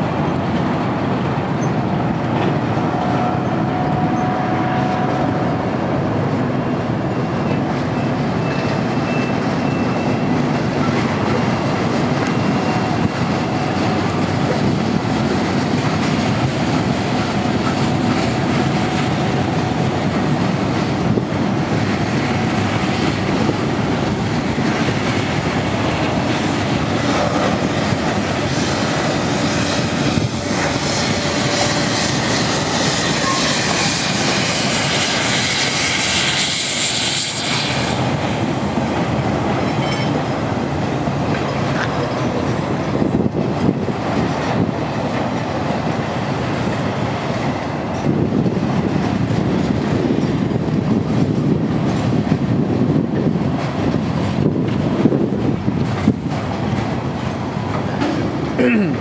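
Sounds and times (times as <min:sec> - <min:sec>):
freight cars rumbling on rails: 0:00.0 - 0:59.0.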